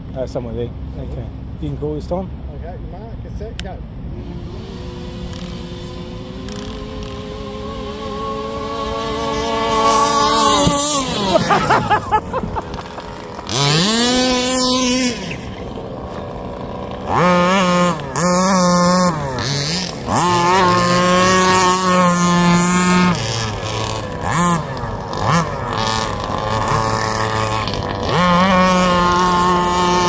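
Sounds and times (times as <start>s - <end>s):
small two-stroke engines revving: 3.4s - 30.0s.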